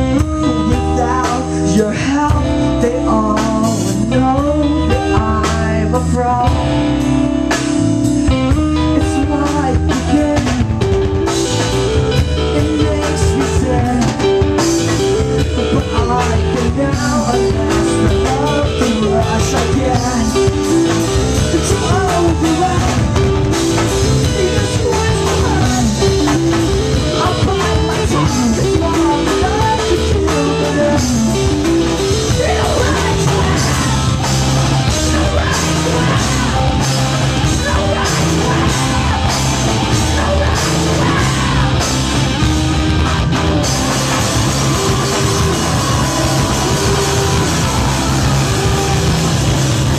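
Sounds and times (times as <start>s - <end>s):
person singing: 0.0s - 7.1s, 8.3s - 49.9s
bass guitar: 0.0s - 49.9s
drum kit: 0.0s - 49.9s
electric guitars: 0.0s - 49.9s.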